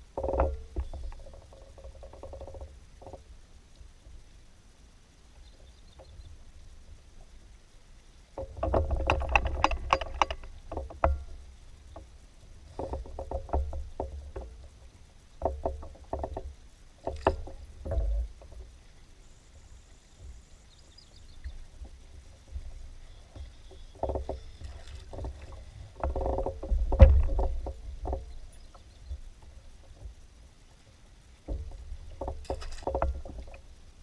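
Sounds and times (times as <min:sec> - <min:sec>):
gear rattling against kayak hull: 0:00.0 - 0:04.3, 0:08.2 - 0:19.0, 0:21.1 - 0:34.0.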